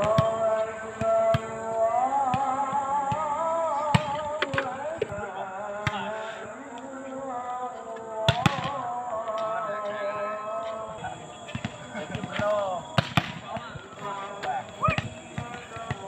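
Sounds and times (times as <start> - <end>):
distant person singing: 0.0 - 16.0.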